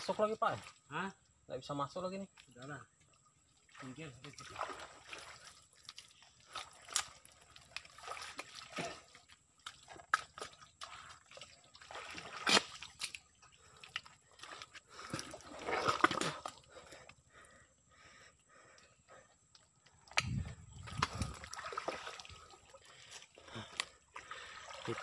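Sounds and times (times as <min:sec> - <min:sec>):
creek water splashing: 0:00.0 - 0:01.4, 0:02.0 - 0:25.0.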